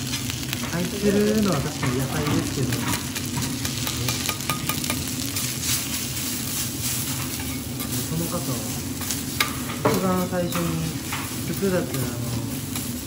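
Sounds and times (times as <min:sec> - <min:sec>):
rice and egg sizzling on griddle: 0:00.0 - 0:13.0.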